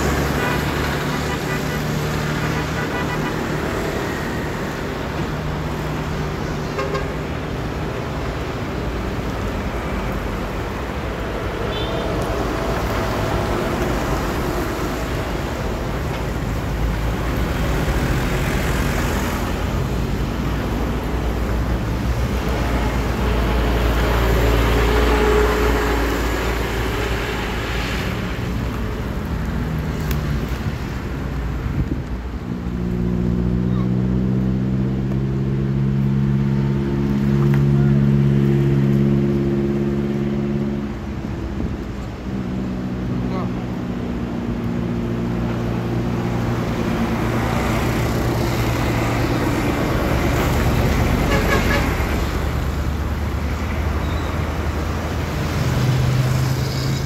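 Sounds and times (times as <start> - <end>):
road traffic engine rumble: 0.0 - 57.0.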